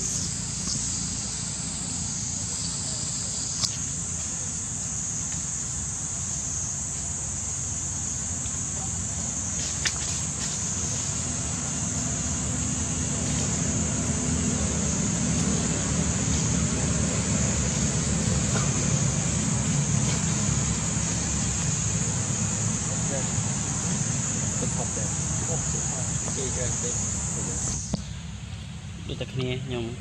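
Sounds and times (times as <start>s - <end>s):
high-pitched insect drone: 0.0s - 28.3s.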